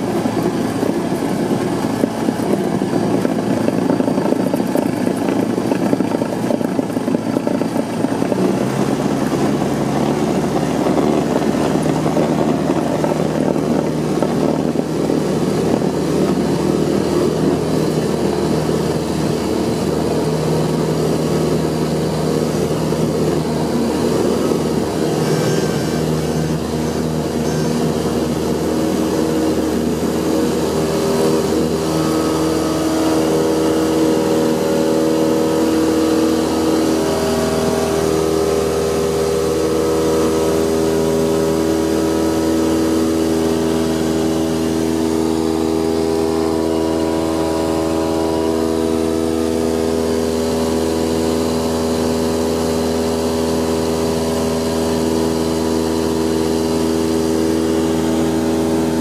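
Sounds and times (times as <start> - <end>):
light aircraft engine drone: 0.0 - 59.0
wheels rumbling on grass: 0.0 - 59.0.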